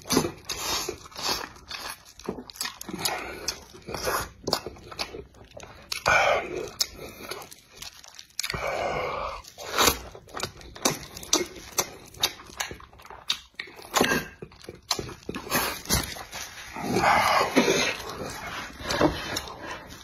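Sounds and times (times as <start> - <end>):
wet chewing and lip-smacking: 0.0 - 8.8, 9.4 - 20.0.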